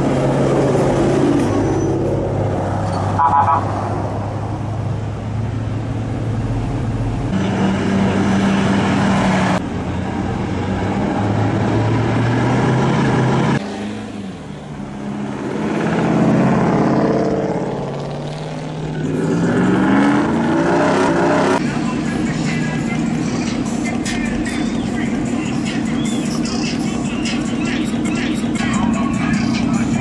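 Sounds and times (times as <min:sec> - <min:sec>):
truck engines driving by: 0:00.0 - 0:30.0.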